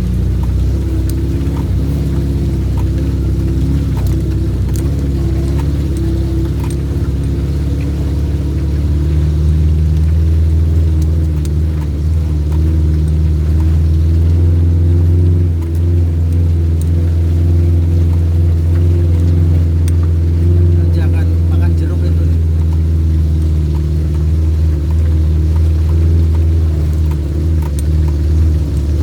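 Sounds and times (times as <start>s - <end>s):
off-road vehicle engine droning: 0.0s - 29.0s.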